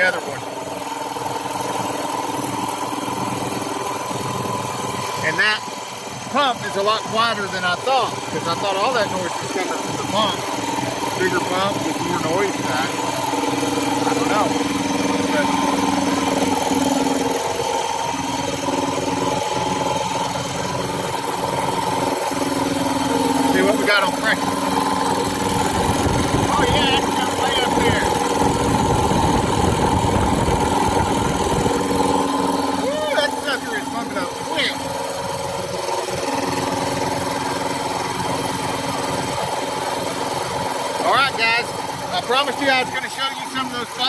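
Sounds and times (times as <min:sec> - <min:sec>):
air compressor running: 0:00.0 - 0:44.0.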